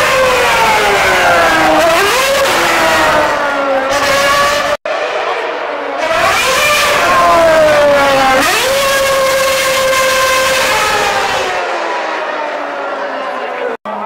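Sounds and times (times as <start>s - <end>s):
race car engine revving: 0.0s - 13.8s.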